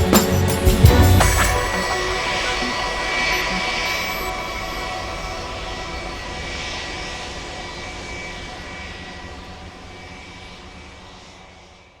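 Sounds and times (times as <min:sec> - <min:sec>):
airplane engine drone: 0:00.0 - 0:11.9.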